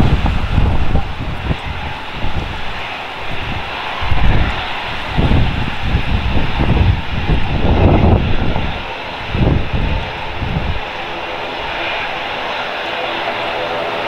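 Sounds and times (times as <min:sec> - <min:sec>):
jet engine hiss and whine: 0:00.0 - 0:14.0
low rumbling: 0:00.0 - 0:14.0.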